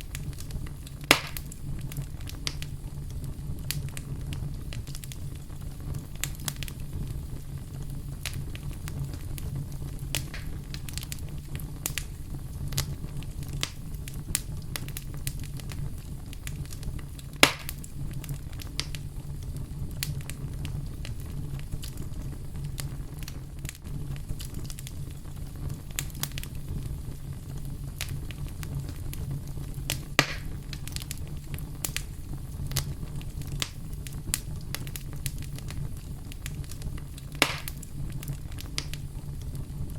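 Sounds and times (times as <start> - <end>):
campfire crackling: 0.0 - 39.9
loud fire snaps: 0.0 - 39.9.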